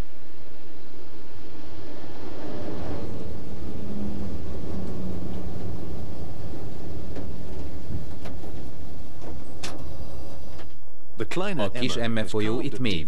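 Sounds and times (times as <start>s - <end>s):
electric train rumbling: 0.0s - 12.8s
faint hum: 0.0s - 13.0s.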